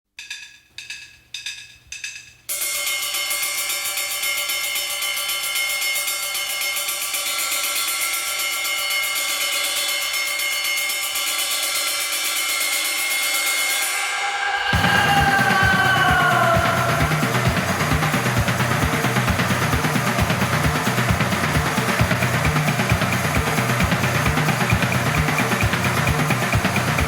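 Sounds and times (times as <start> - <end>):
cymbal-like ticking: 0.2 - 27.0.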